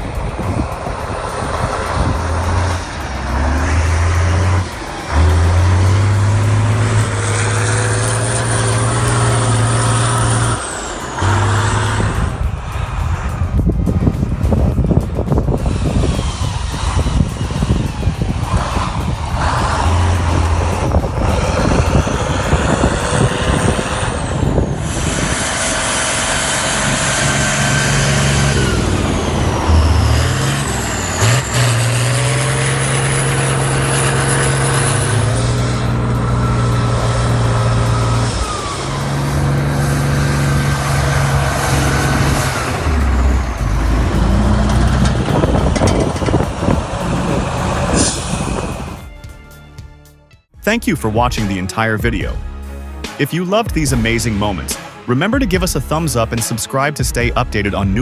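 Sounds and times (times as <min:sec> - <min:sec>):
heavy truck engine revving: 0:00.0 - 0:49.4.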